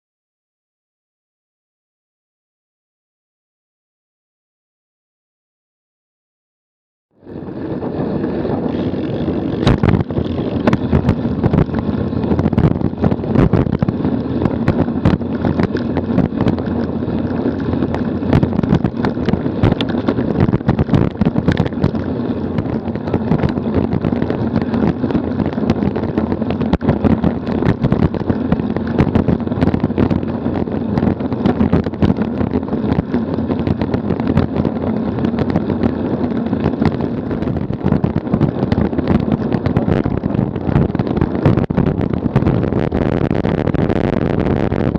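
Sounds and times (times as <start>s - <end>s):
bicycle road rumble: 7.1s - 44.9s
wind on microphone: 7.2s - 44.9s
bike knocks and rattles: 7.5s - 43.5s.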